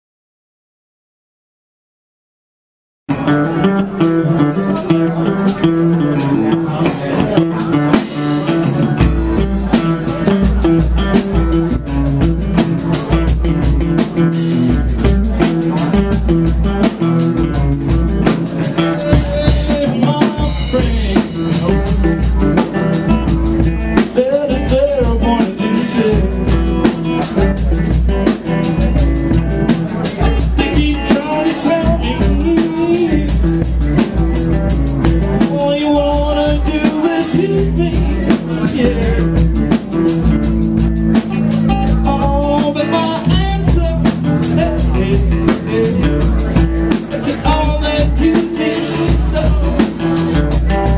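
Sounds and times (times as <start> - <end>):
drum kit beat: 3.1 - 50.9
electric guitars: 3.1 - 50.9.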